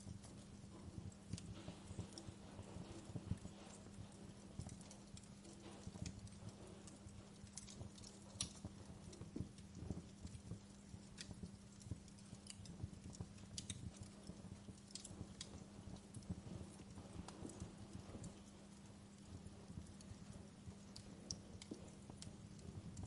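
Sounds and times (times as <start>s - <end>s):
faint low hum: 0.0s - 23.0s
wood fire crackling: 0.0s - 23.0s.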